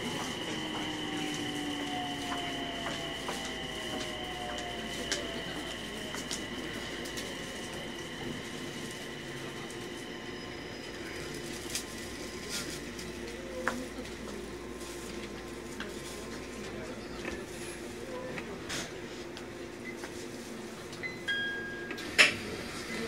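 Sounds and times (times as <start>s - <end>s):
train car hum and hiss: 0.0s - 23.0s.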